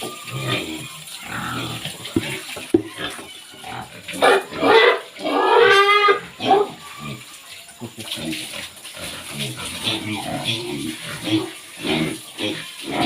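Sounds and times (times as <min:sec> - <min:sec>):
pigs grunting: 0:00.0 - 0:13.0
pigs squealing: 0:00.0 - 0:13.0.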